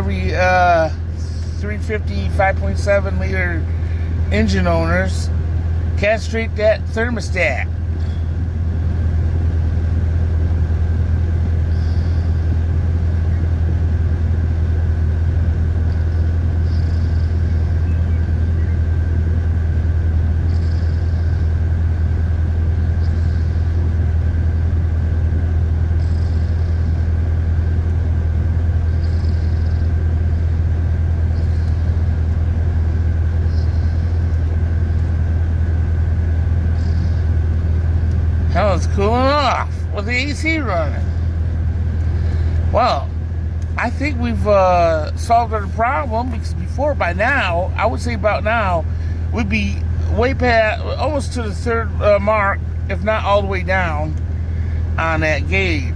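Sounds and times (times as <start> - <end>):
air conditioning whine: 0.0 - 55.9
car engine idling: 0.0 - 55.9.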